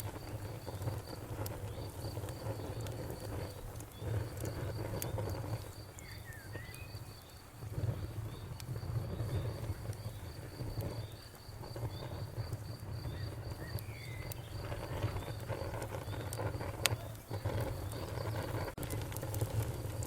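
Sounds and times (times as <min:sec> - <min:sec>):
cricket chirping: 0:00.0 - 0:18.8
campfire crackling and popping: 0:00.0 - 0:20.0
low fire rumble: 0:00.0 - 0:20.0.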